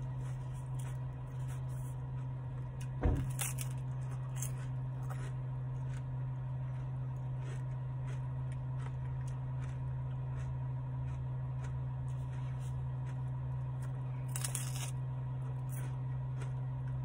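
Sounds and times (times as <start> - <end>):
chewing with crunches: 0.0 - 17.0
steady low hum: 0.0 - 17.0.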